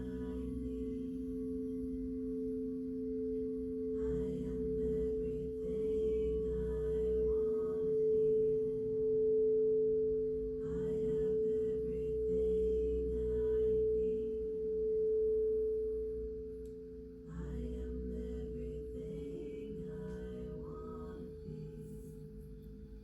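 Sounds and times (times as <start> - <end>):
singing bowl ringing: 0.0 - 21.8.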